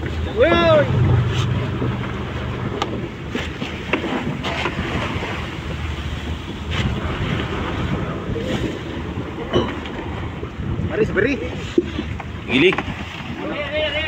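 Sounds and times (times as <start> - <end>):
boat engine low drone: 0.0 - 14.0
sea water: 0.0 - 14.0
wind on microphone: 0.0 - 14.0.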